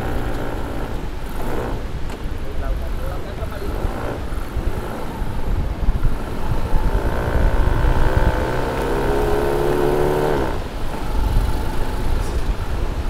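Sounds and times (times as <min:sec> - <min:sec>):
quad bike engine revving: 0:00.0 - 0:13.0
wind buffeting microphone: 0:00.0 - 0:13.0.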